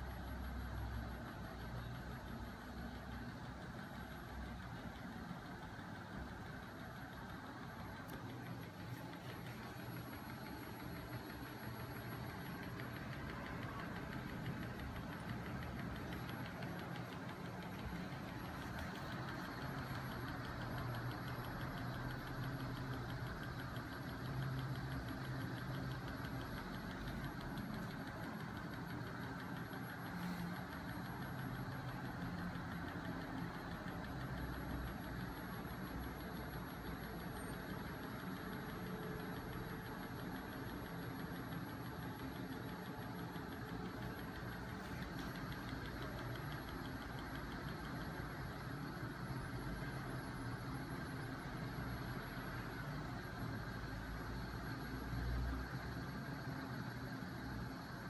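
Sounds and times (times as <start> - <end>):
mechanical whir with fast ticking: 0.0 - 58.0.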